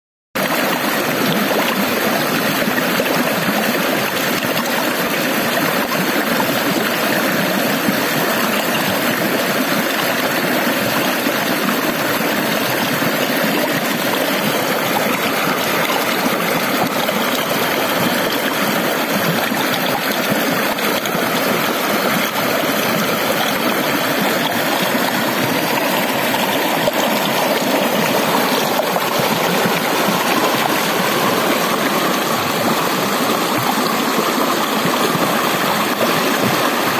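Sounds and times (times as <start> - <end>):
stream rushing over rocks: 0.4 - 36.9.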